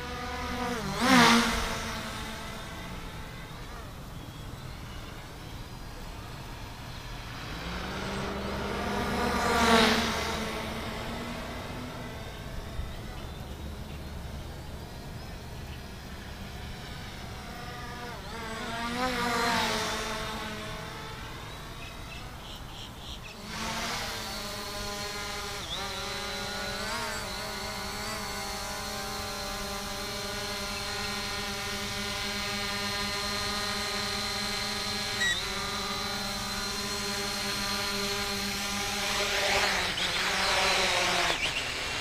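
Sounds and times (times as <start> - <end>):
quadcopter propellers buzzing: 0.0 - 42.0.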